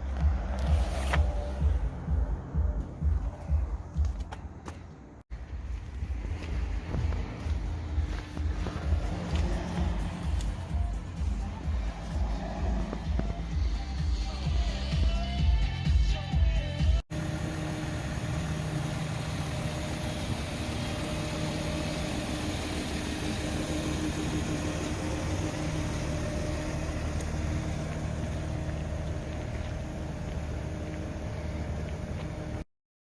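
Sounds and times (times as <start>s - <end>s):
car engine idling: 0.0s - 5.2s, 5.8s - 15.7s, 17.1s - 32.6s.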